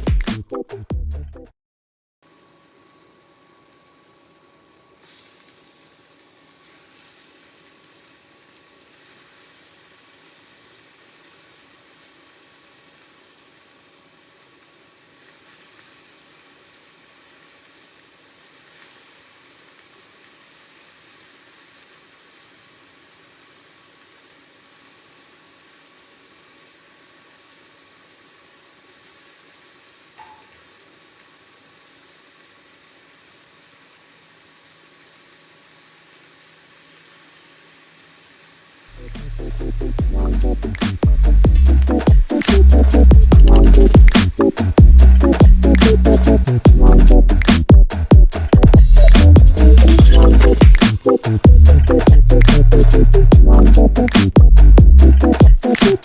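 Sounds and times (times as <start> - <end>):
faint steady whine: 2.2 - 47.4
food sizzling in a frying pan: 2.3 - 54.0.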